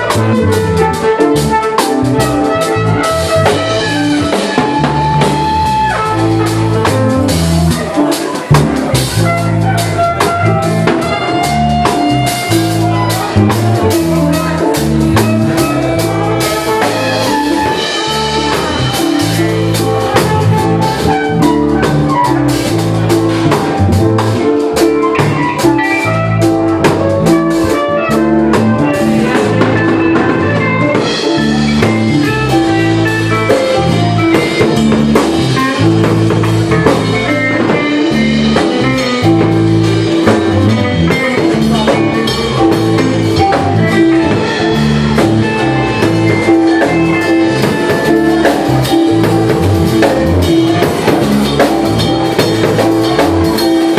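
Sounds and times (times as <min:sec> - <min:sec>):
bass guitar holding low notes: 0:00.0 - 0:53.9
drum kit: 0:00.0 - 0:53.9
guitar: 0:00.0 - 0:53.9.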